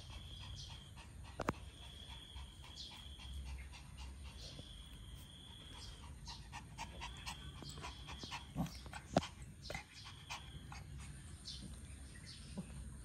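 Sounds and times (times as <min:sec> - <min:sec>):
small dog panting: 0:00.0 - 0:13.0.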